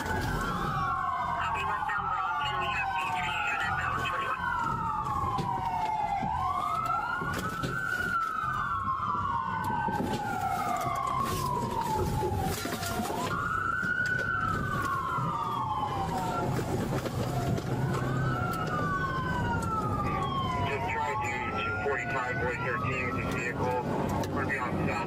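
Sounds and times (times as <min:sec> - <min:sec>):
police siren wailing: 0:00.0 - 0:25.0
road and engine rumble: 0:00.0 - 0:25.0.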